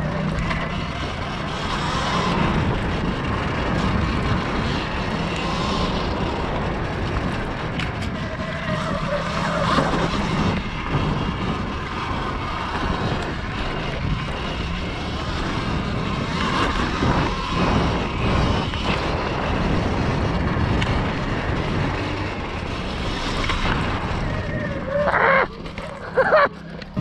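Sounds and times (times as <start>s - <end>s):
vehicle motor running: 0.0s - 27.0s
wind noise on microphone: 0.0s - 27.0s.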